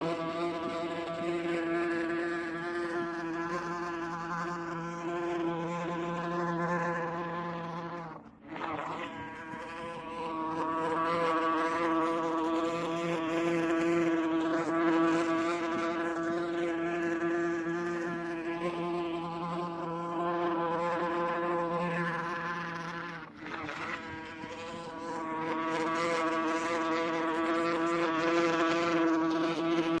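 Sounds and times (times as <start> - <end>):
wasp buzzing in flight: 0.0 - 30.0.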